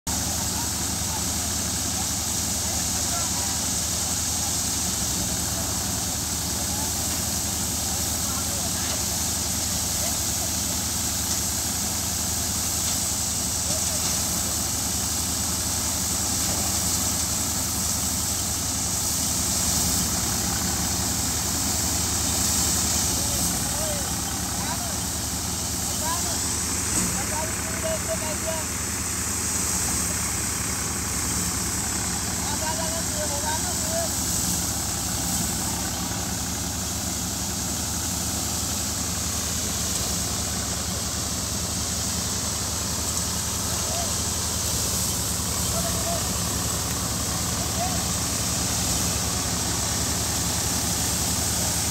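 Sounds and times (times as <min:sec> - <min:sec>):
rushing hiss of thresher: 0:00.1 - 0:51.9
thresher engine drone: 0:00.1 - 0:51.9.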